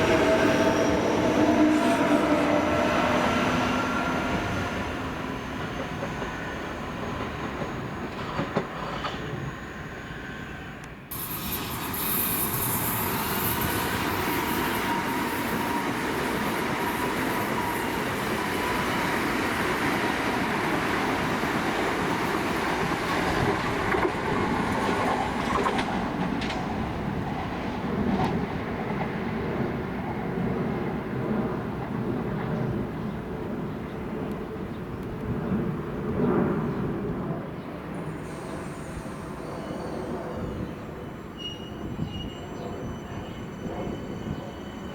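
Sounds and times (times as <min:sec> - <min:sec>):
train wheels rumbling on rail: 0:00.0 - 0:10.0, 0:10.8 - 0:44.9.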